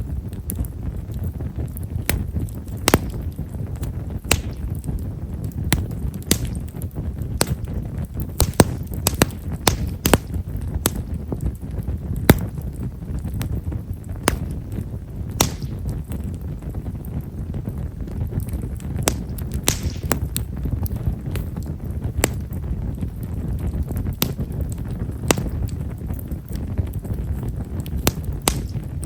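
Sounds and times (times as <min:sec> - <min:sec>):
rush of burning logs: 0:00.0 - 0:29.0
wood fire crackling: 0:00.0 - 0:29.0.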